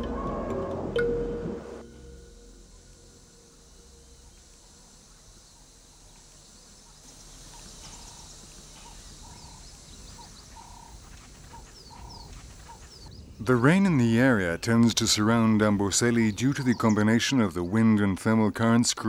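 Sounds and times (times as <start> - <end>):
steady hiss: 1.4 - 19.0
birds calling and chirping: 3.5 - 19.0.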